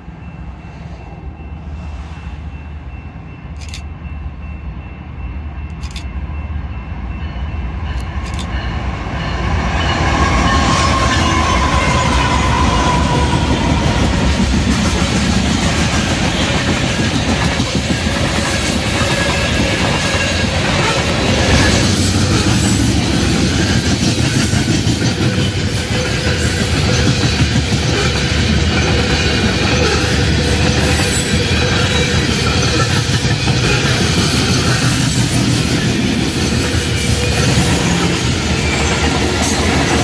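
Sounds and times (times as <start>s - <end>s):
diesel locomotives passing: 0.0s - 40.0s
locomotive whine: 0.0s - 40.0s.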